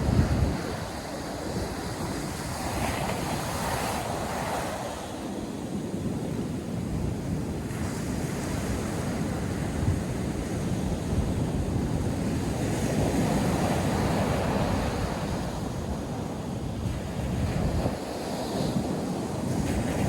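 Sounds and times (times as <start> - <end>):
surf washing on sandy beach: 0.0 - 20.0
wind buffeting microphone: 0.0 - 20.0.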